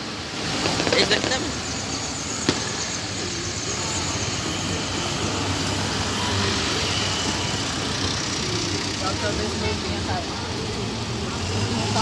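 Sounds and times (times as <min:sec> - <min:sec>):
diesel tractor engines: 0:00.0 - 0:12.0
road noise: 0:00.0 - 0:12.0.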